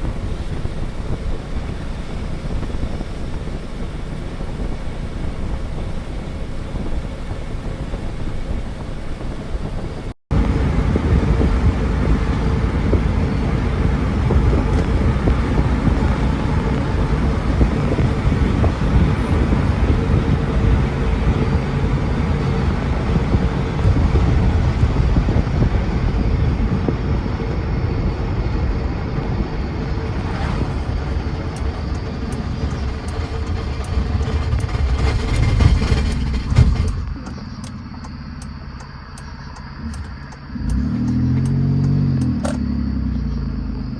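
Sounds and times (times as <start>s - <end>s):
car road and drivetrain noise: 0.0s - 43.9s
faint steady whine: 0.0s - 43.9s.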